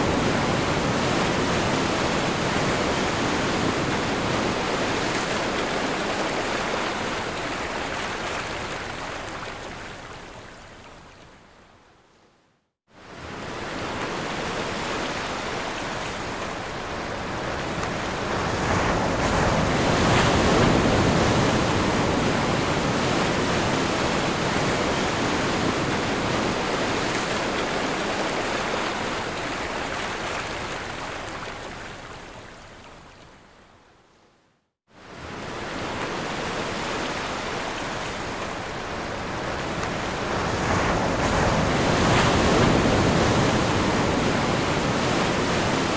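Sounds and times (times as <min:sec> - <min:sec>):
waves rushing: 0:00.0 - 0:09.7, 0:13.0 - 0:31.7, 0:35.0 - 0:45.9.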